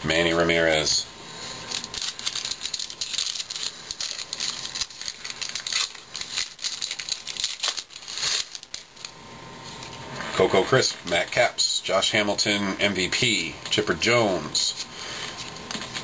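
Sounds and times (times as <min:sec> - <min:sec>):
foil wrapper crinkling: 0:01.3 - 0:11.5, 0:13.0 - 0:16.0.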